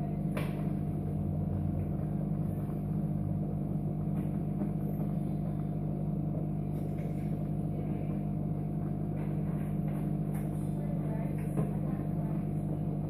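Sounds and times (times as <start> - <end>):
fog machine electrical hum: 0.0 - 13.0.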